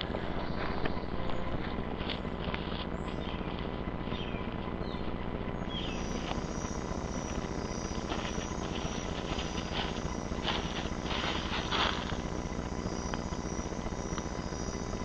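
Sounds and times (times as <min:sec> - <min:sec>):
footsteps through dry grass: 0:00.0 - 0:13.5
steady low hum: 0:00.0 - 0:15.0.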